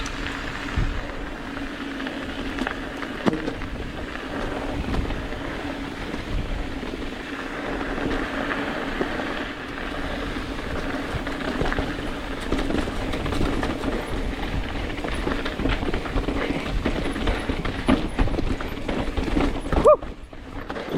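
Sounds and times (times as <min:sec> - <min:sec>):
bike rattling over rough trail: 0:00.0 - 0:20.9
wind rumbling on microphone: 0:00.0 - 0:20.9.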